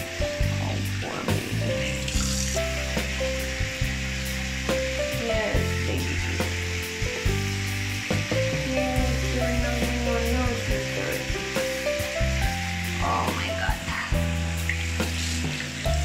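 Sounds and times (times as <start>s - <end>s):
background music of low notes: 0.0s - 16.0s
tap water running into sink: 0.0s - 16.0s.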